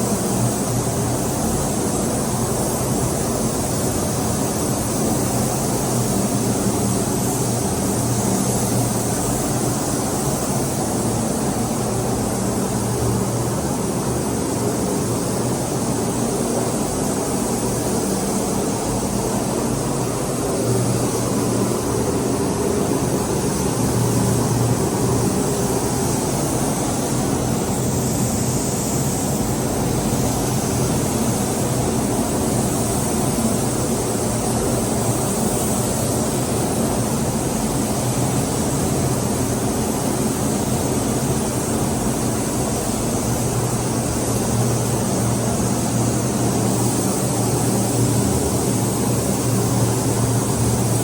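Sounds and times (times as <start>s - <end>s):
machine humming and hissing: 0.0s - 51.0s.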